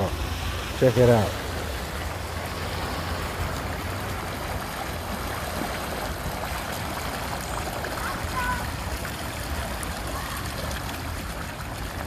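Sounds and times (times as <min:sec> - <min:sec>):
water rushing along gutter: 0:00.0 - 0:12.0.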